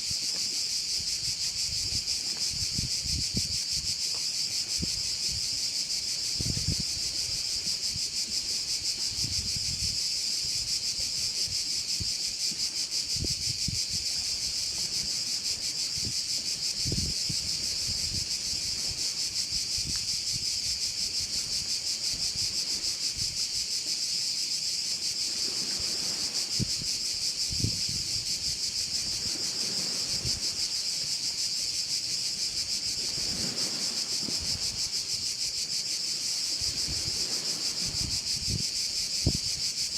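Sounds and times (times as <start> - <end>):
wind rumble on microphone: 0.0 - 23.8, 25.2 - 35.7, 36.4 - 39.9
crickets chirping: 0.0 - 39.9.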